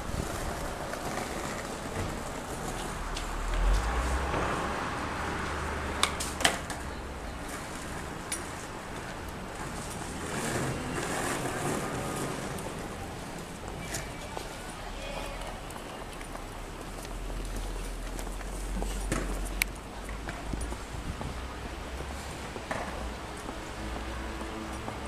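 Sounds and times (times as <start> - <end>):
city street background noise: 0.0 - 25.0
passing vehicle rumble: 0.0 - 25.0.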